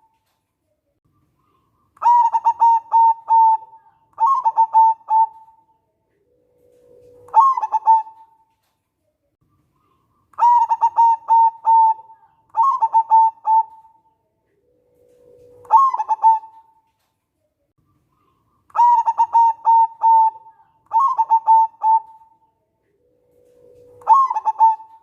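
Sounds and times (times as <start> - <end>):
dove cooing: 1.4 - 8.4, 9.8 - 16.8, 18.2 - 25.0.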